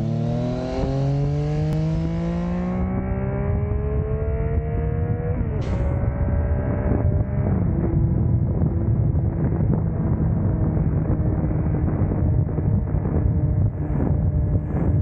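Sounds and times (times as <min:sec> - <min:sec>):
motorcycle engine cruising: 0:00.0 - 0:15.0
wind buffeting on microphone: 0:01.7 - 0:15.0.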